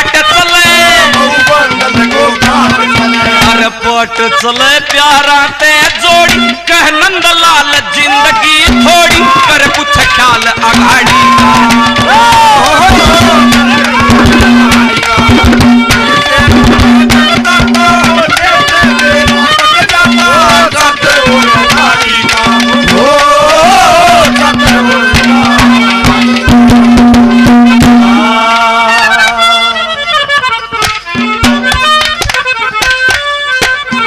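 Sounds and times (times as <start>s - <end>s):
fast hand drum rhythm: 0.0s - 7.0s, 8.1s - 28.8s, 30.8s - 34.0s
instrumental melody line: 0.0s - 34.0s.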